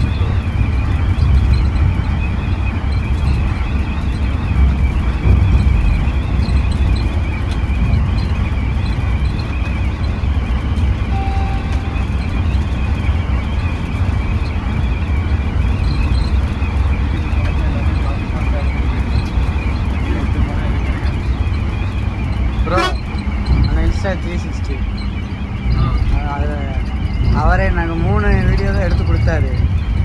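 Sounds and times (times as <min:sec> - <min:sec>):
diesel engine low rumble: 0:00.0 - 0:30.0
road and cabin noise: 0:00.0 - 0:30.0.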